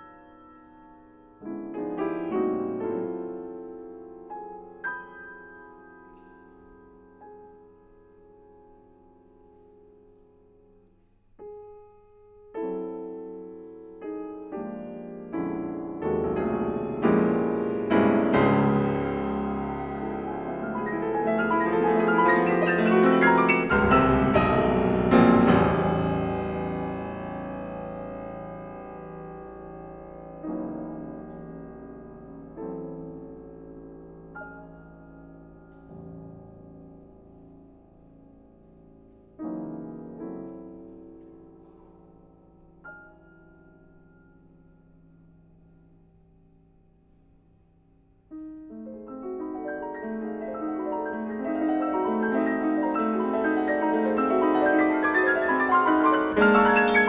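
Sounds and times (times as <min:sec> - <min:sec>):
piano chords: 0:00.0 - 0:57.0.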